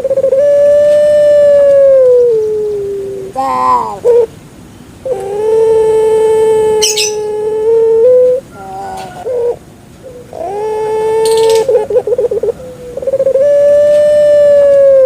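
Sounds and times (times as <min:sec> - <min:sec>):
dove cooing: 0:00.0 - 0:04.4, 0:05.0 - 0:15.0.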